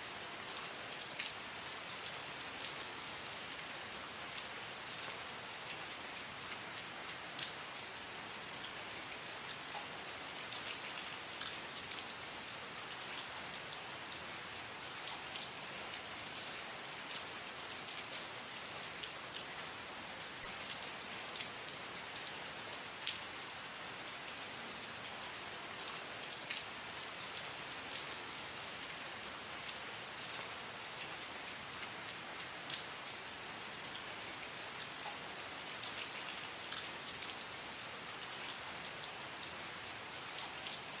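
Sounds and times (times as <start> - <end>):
steady rain hiss: 0.0 - 41.0
raindrops ticking on a surface: 0.2 - 41.0.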